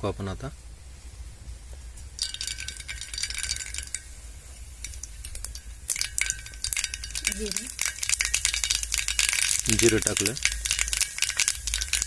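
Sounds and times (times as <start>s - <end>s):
mustard seeds popping in hot oil: 1.7s - 12.0s.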